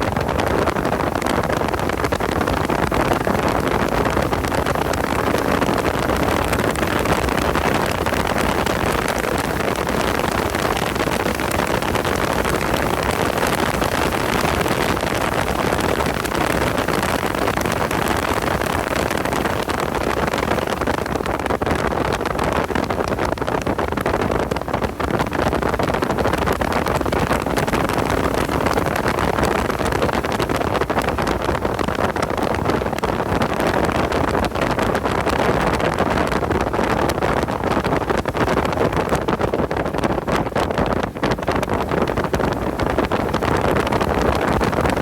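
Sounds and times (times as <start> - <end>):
race car driving at speed: 0.0 - 45.0.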